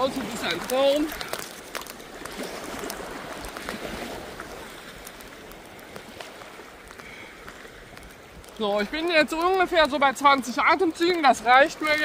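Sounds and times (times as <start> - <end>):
water lapping and sloshing: 0.0 - 12.0
wind rumbling on microphone: 0.0 - 12.0.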